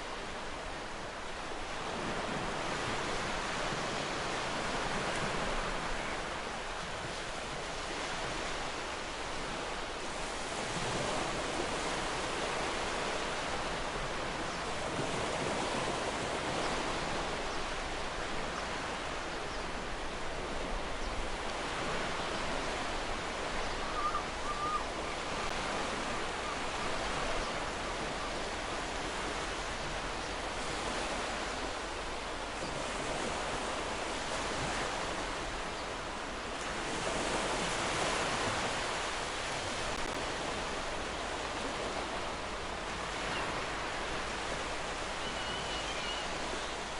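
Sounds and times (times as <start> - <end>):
ocean waves washing ashore: 0.0 - 46.9.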